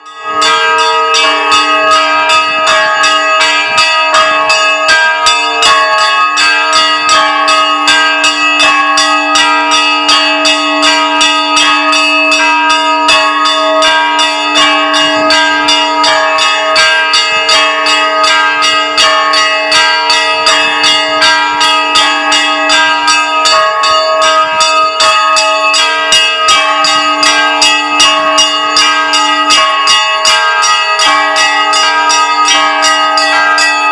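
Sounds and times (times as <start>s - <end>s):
large bells humming: 0.0s - 33.9s
small church bells striking: 0.0s - 33.9s.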